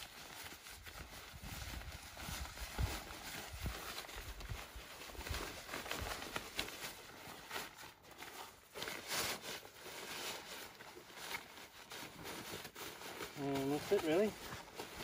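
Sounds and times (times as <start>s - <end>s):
fabric bag rustling and crinkling: 0.0s - 15.0s.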